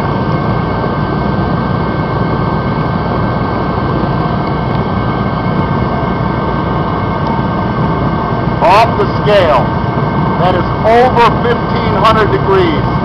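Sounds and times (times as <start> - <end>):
faint steady whine: 0.0 - 13.0
heater fan and burner roar: 0.0 - 13.0.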